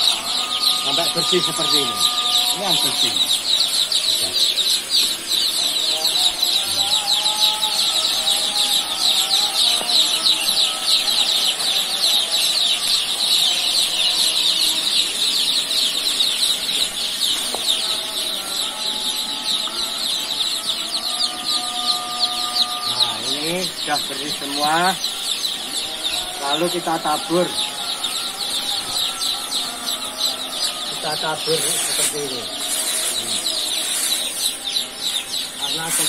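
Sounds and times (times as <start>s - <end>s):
chicks peeping: 0.0s - 36.0s.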